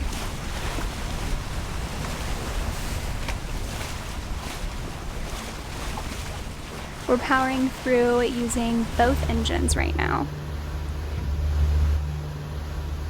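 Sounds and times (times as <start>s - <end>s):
water rushing along boat hulls: 0.0s - 13.0s
wind buffeting microphone: 0.0s - 13.0s.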